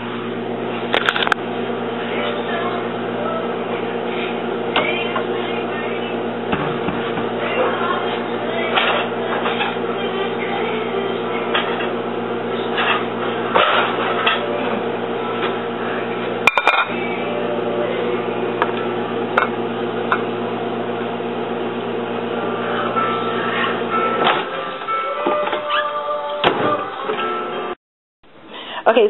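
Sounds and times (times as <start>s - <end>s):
kitchen appliance humming: 0.0s - 29.0s.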